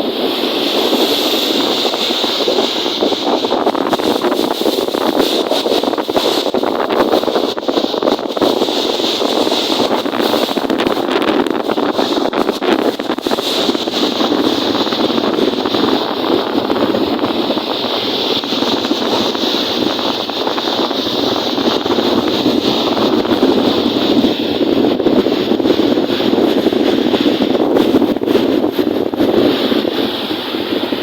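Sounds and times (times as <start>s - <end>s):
lake waves washing: 0.0s - 31.0s
strong wind on microphone: 0.0s - 31.0s.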